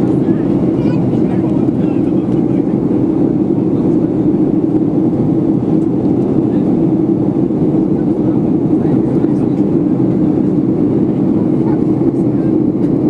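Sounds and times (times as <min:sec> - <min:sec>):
jet engines droning: 0:00.0 - 0:13.0
rushing airflow: 0:00.0 - 0:13.0.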